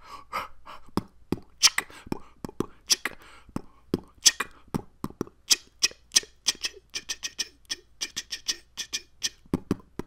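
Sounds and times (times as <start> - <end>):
beatboxing: 0.8 - 10.0.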